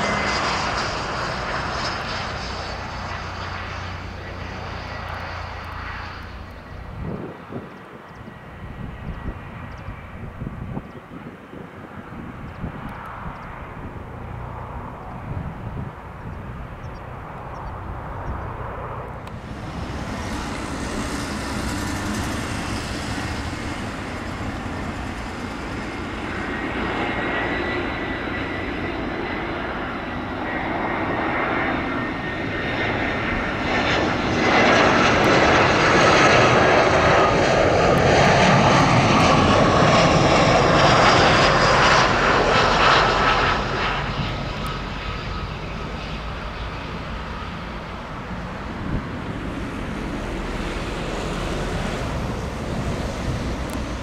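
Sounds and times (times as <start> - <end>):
jet engines passing: 0.0 - 54.0.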